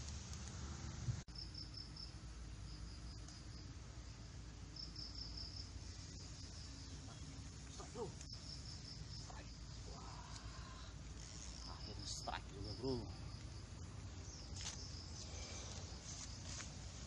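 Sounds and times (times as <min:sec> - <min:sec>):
low outdoor background noise: 0:00.0 - 0:17.0
insects chirping: 0:01.3 - 0:17.0.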